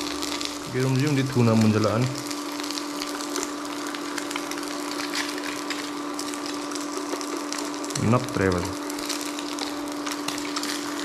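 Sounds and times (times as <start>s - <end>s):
food sizzling in a pan: 0.0s - 11.0s
steady hum: 0.0s - 11.0s.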